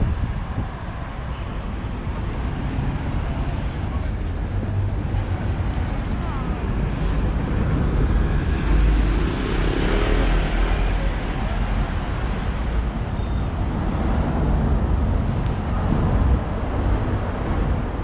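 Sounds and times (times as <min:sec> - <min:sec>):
cars driving on busy street: 0:00.0 - 0:18.0
low traffic rumble: 0:00.0 - 0:18.0.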